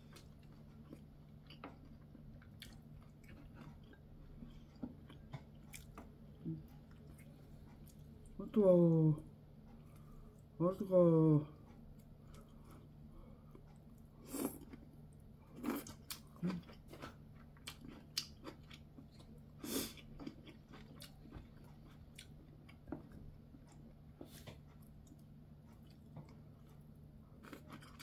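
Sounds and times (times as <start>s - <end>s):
person chewing: 0.0s - 8.4s, 11.6s - 28.0s.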